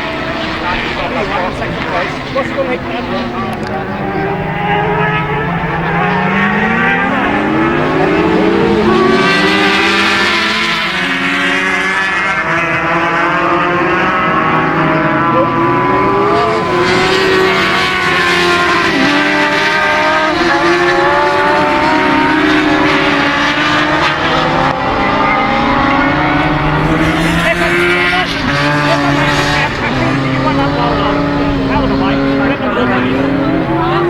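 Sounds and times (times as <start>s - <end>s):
racing motorcycles at full throttle: 0.0s - 34.0s.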